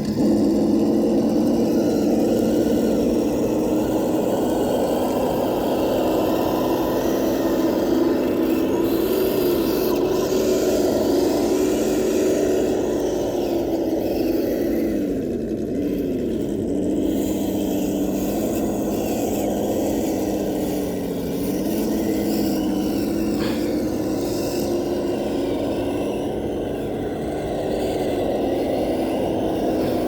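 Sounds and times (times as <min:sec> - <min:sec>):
toy snowcat motor whirring: 0:00.0 - 0:30.0.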